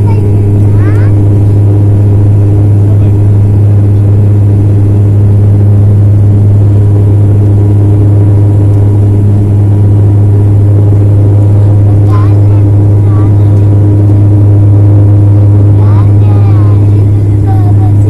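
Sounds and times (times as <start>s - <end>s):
propeller plane cabin drone: 0.0s - 18.0s.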